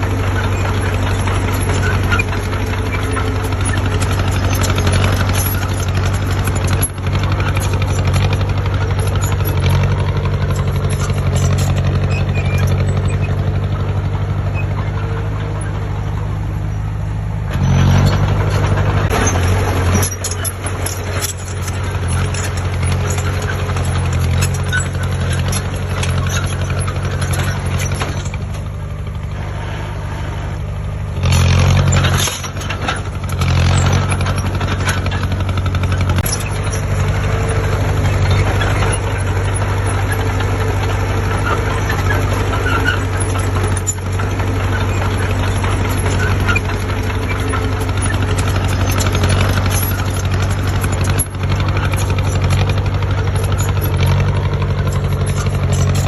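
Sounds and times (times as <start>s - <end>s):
heavy diesel engine revving: 0.0s - 56.0s.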